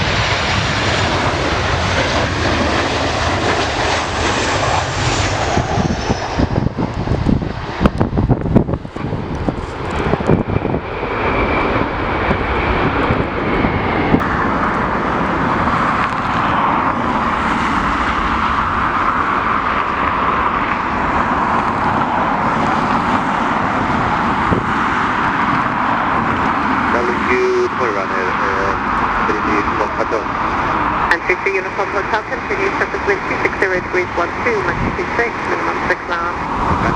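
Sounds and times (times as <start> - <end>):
jet engines rushing: 0.0 - 36.9
wind buffeting microphone: 0.0 - 36.9.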